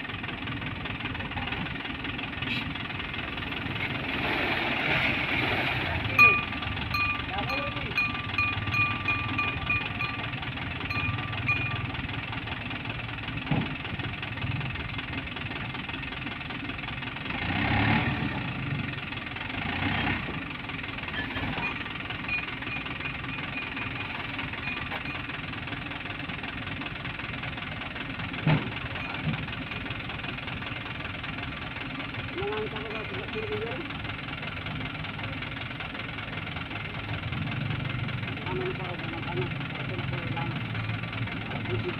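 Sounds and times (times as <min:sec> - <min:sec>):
dump truck diesel engine: 0:00.0 - 0:41.9.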